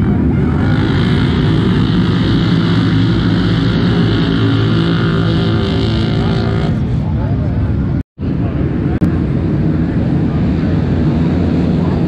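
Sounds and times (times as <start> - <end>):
racing quad bike engines droning: 0.0 - 12.0.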